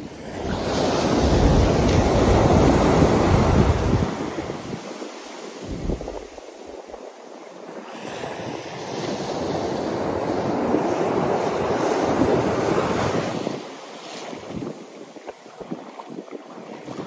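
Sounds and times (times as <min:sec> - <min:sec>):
surf breaking on a sandy beach: 0:00.0 - 0:17.0.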